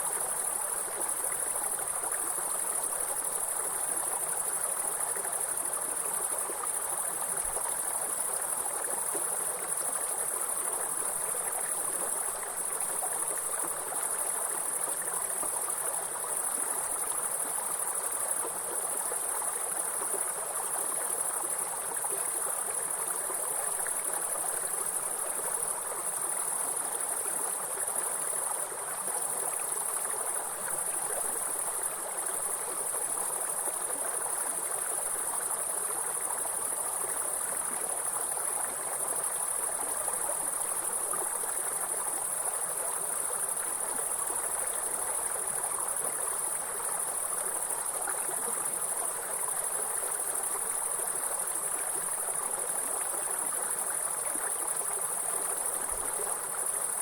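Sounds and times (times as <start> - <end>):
insects chirring: 0.0 - 57.0
stream flowing: 0.0 - 57.0.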